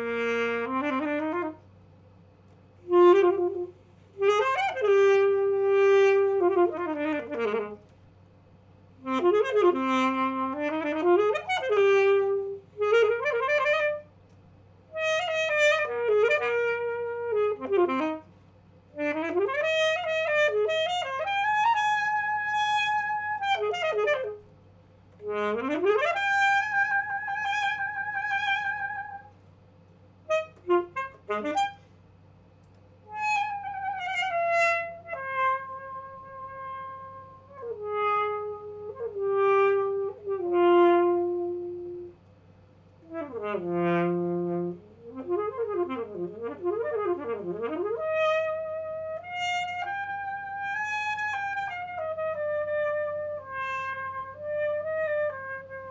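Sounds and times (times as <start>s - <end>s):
alto saxophone playing: 0.0s - 55.9s.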